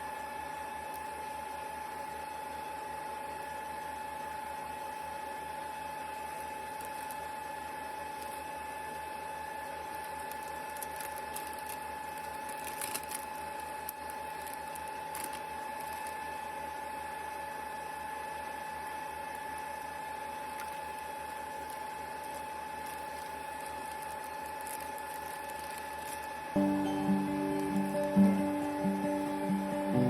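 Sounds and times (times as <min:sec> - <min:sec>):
mechanical hum with high whine: 0:00.0 - 0:30.0.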